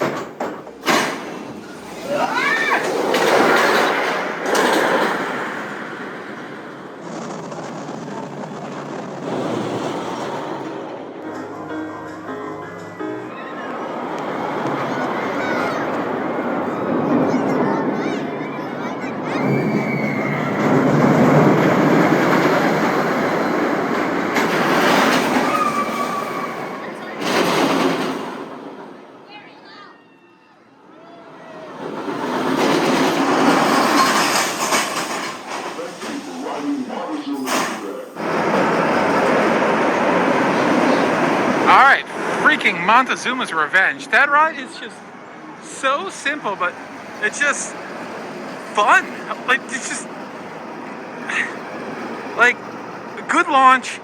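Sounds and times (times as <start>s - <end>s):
roller coaster launch rushing: 0.0s - 11.6s, 12.8s - 29.4s, 30.8s - 54.0s
coaster train rumbling on track: 0.0s - 30.0s, 30.6s - 54.0s.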